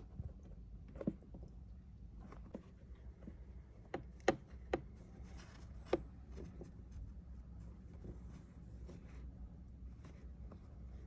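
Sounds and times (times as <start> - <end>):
light taps and scratches: 0.0 - 11.0
low steady hum: 0.0 - 11.0.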